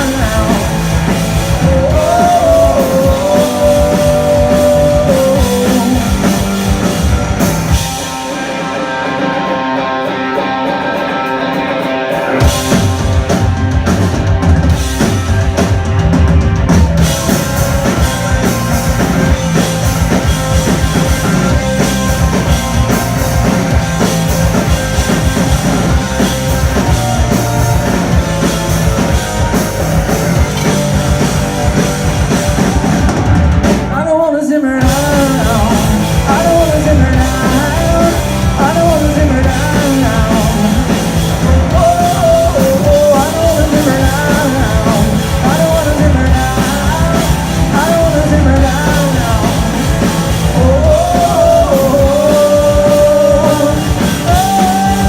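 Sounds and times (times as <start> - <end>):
live rock band playing loudly: 0.0 - 55.0.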